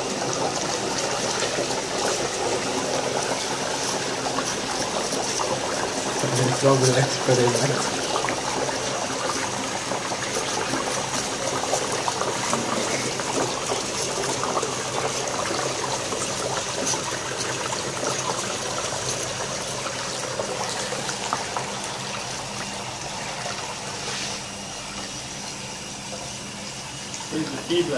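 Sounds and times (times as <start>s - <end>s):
dry ice bubbling: 0.0s - 27.9s
water pouring into a basin: 0.0s - 27.9s.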